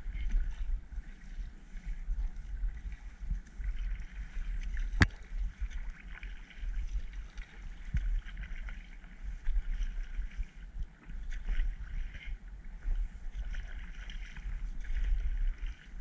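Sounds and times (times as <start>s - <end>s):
paddle splashing in water: 0.0s - 16.0s
wind rumble on microphone: 0.0s - 16.0s.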